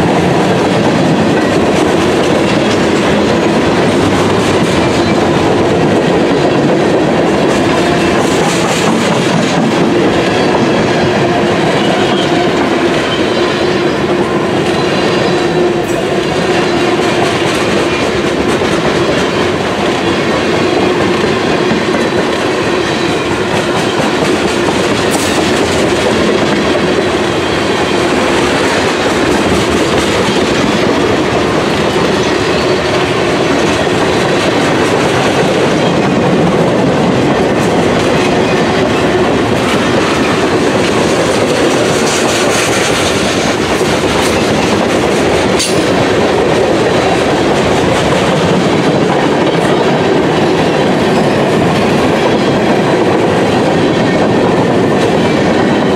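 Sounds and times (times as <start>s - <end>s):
freight train wheels rumbling on rails: 0.0s - 55.9s.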